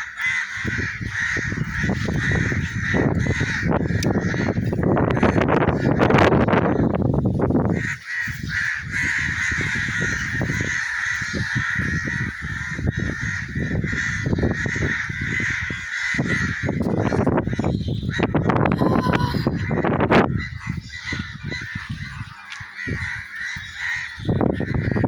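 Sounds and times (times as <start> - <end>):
flock of birds calling: 0.0 - 6.0, 7.7 - 25.0.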